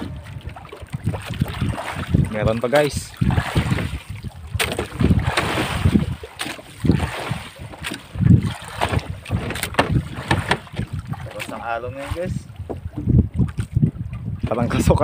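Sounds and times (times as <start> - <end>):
low thumps of a boat: 0.0 - 15.0
watery rumbles: 0.0 - 15.0
wind on microphone: 0.0 - 15.0.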